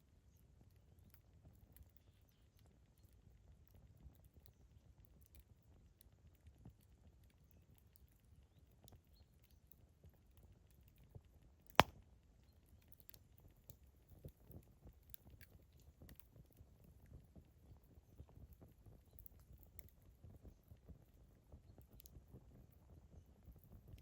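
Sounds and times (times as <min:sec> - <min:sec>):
low fire rumble: 0:00.4 - 0:24.0
campfire crackling: 0:03.6 - 0:24.0.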